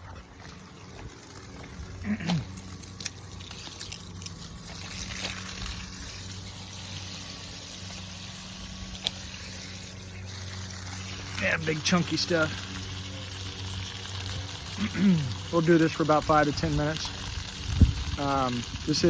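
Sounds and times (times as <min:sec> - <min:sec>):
water running onto the ground: 0:00.0 - 0:19.0.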